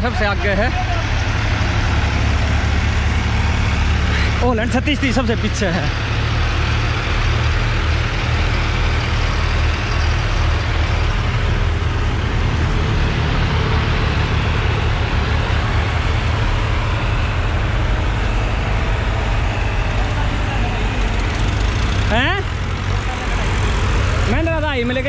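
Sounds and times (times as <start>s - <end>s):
diesel tractor engines humming: 0.0s - 25.0s.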